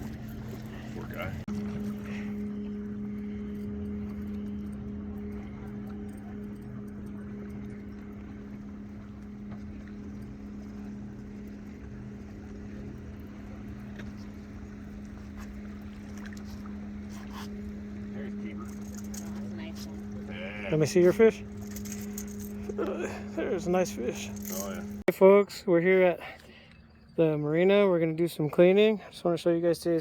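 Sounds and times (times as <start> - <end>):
boat motor humming: 0.0 - 28.9.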